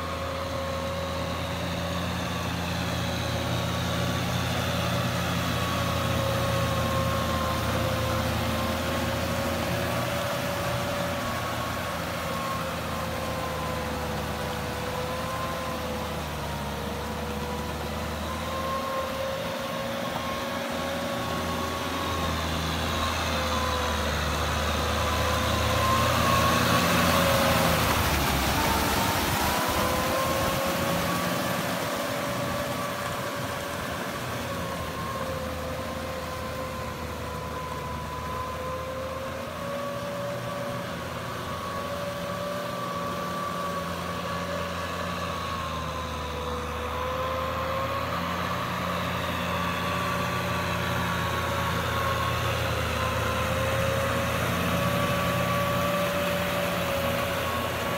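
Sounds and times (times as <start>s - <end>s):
tractor diesel engine running: 0.0s - 57.9s
wavering mechanical whine: 0.0s - 57.9s.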